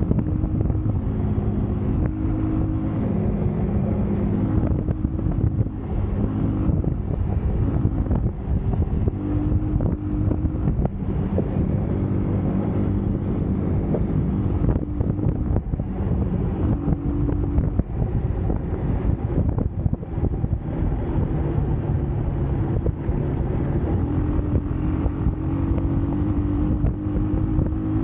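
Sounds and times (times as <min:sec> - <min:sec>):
motorcycle engine running: 0:00.0 - 0:28.0
wind buffeting on microphone: 0:00.0 - 0:28.0.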